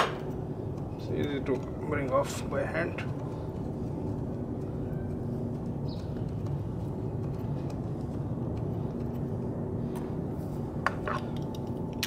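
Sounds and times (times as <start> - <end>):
low mechanical rumble with hum: 0.0 - 12.0.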